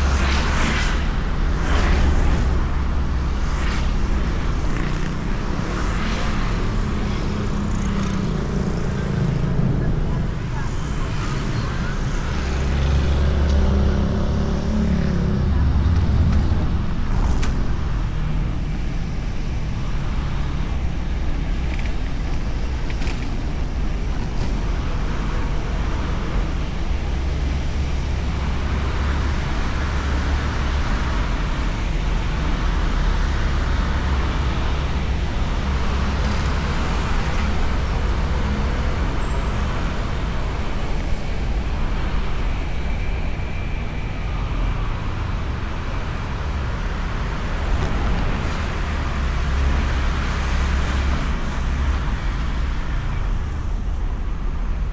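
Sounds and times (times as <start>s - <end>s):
passing traffic: 0.0s - 54.9s
road noise: 0.0s - 54.9s.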